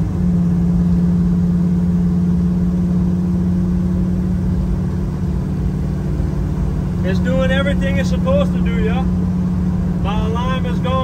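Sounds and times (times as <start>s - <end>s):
car engine droning: 0.0s - 11.0s
road rumble: 0.0s - 11.0s.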